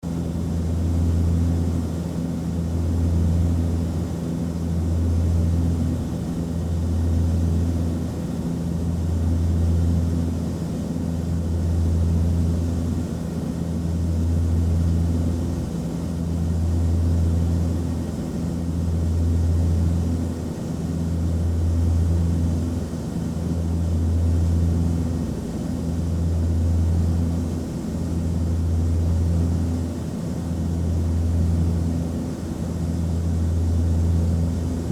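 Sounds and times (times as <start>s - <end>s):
turboprop cabin drone: 0.0s - 34.9s.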